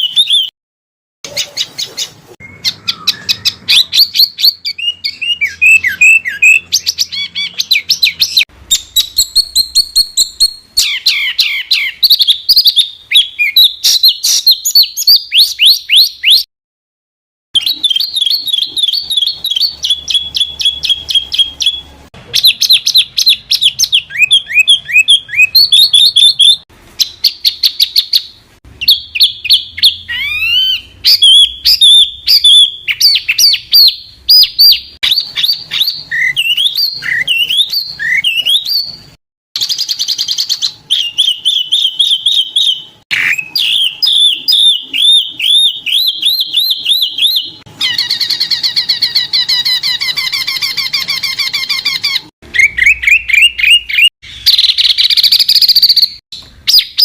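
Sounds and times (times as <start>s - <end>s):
songbirds singing: 1.3s - 16.5s, 17.6s - 57.0s.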